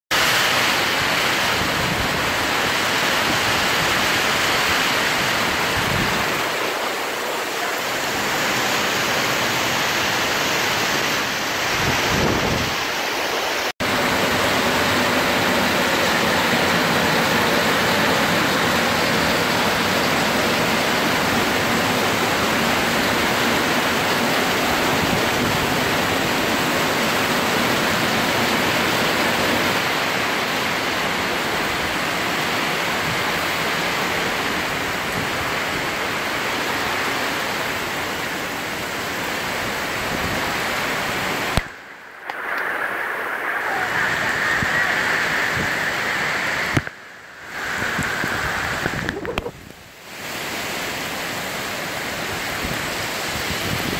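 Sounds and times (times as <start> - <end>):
heavy rain on pavement: 0.1 - 53.9.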